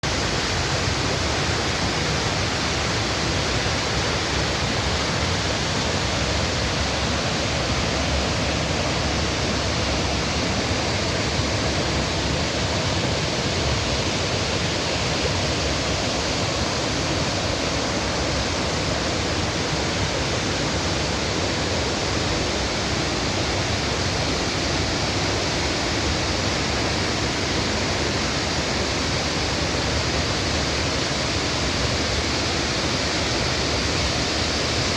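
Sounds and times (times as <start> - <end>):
waterfall: 0.0 - 34.9.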